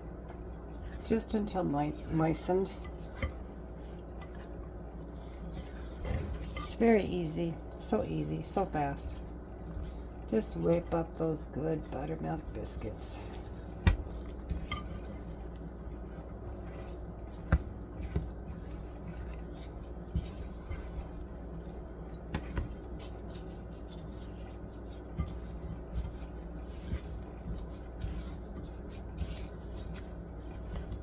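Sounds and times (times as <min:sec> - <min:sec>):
low room hum: 0:00.0 - 0:31.0
dough scraping in mixing bowl: 0:00.7 - 0:31.0.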